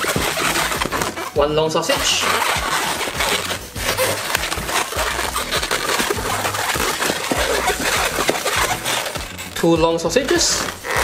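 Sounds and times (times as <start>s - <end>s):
balloons squeaking and rubbing: 0.0s - 11.0s.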